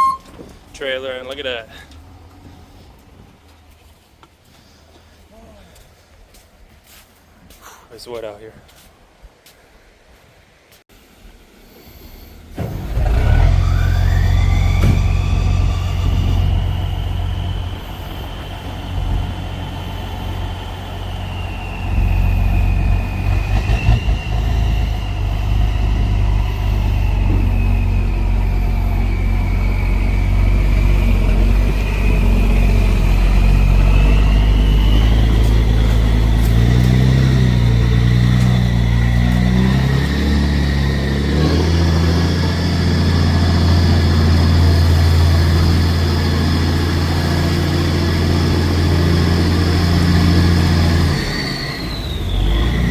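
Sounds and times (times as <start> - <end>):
truck engine whining: 0.0 - 3.6, 12.0 - 52.9.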